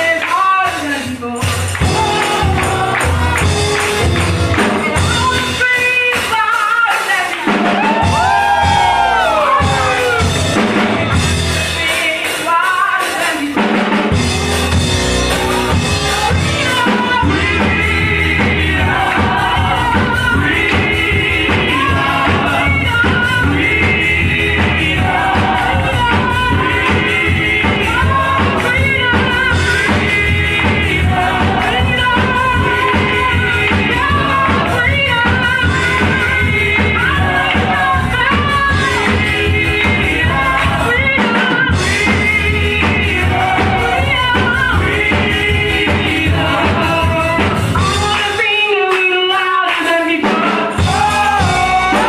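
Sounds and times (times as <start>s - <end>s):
women singing gospel: 0.0s - 14.2s, 15.3s - 52.0s
band accompaniment: 0.0s - 52.0s.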